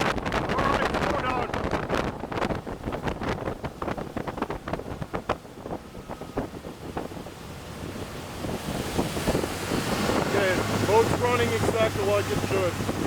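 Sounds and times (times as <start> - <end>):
outboard motor drone: 0.0 - 13.0
wind rushing over microphone: 0.0 - 13.0.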